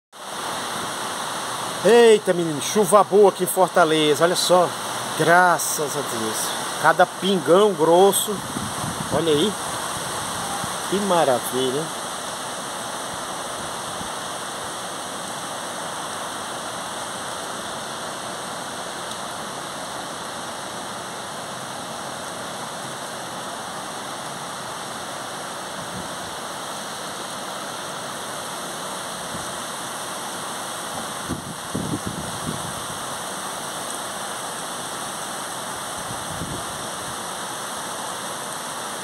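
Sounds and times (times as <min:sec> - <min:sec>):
heavy rain on trees and roofs: 0:00.1 - 0:39.0.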